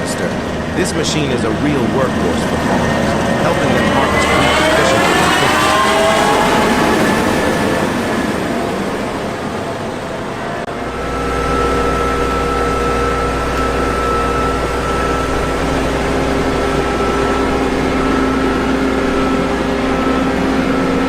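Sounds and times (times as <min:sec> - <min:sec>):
combine harvester engine drone: 0:00.0 - 0:21.0
engine whine: 0:00.0 - 0:21.0.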